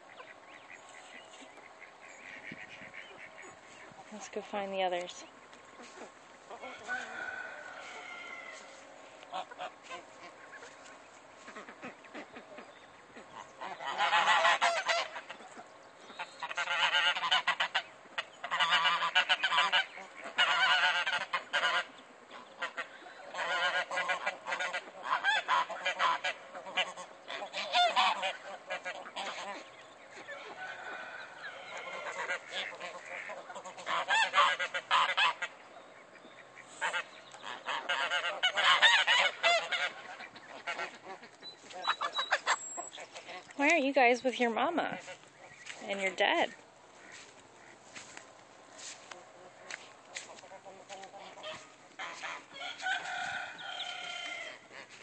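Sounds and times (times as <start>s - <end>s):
geese honking: 0.0s - 55.0s.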